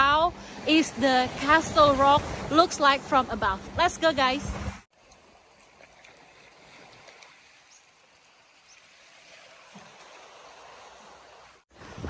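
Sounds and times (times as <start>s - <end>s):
small waves washing on shore: 0.3s - 12.0s.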